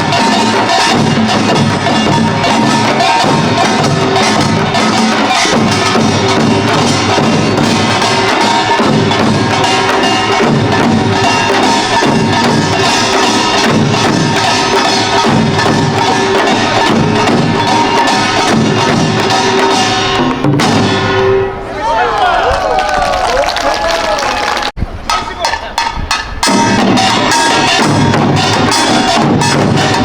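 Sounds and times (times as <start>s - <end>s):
drums playing: 0.0s - 21.6s, 24.5s - 30.0s
small gongs clanging: 0.0s - 21.6s, 25.1s - 30.0s.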